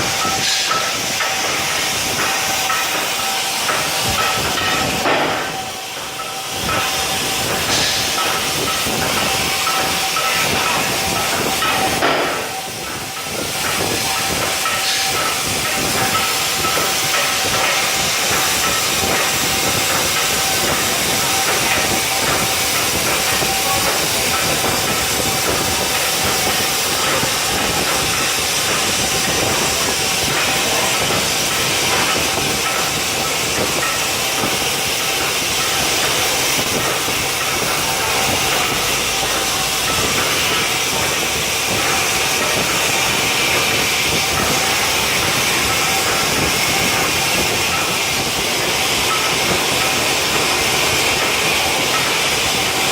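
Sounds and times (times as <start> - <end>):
plasma torch hissing: 0.0 - 52.9.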